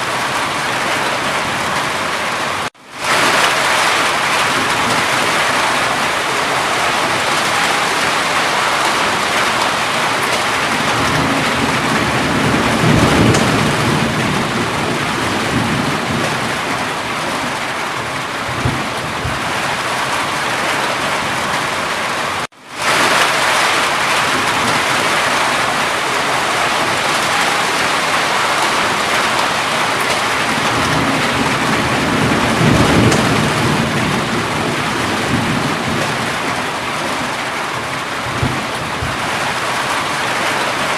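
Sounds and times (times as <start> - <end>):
heavy rain: 0.0 - 40.9
thunder rumbles: 3.0 - 40.9.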